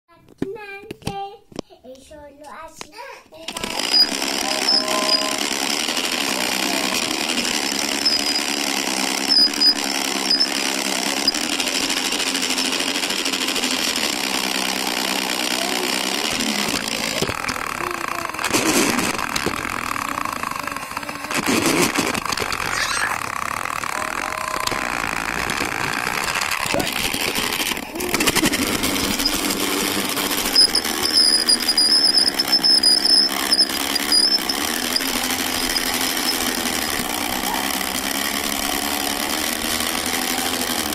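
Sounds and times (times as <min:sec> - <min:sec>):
toy train motor rattling: 0:03.4 - 0:40.9.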